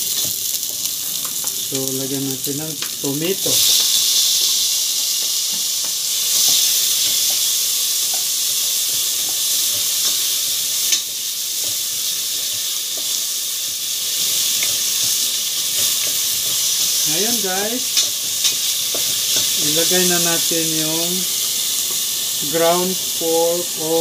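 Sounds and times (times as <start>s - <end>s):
wooden spoon stirring pan: 0.0s - 23.0s
tomatoes sizzling in oil: 0.0s - 24.0s.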